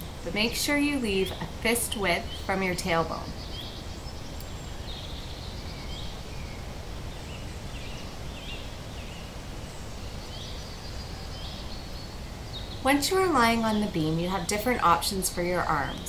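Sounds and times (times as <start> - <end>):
birds chirping: 0.0 - 16.0
low background noise: 0.0 - 16.0.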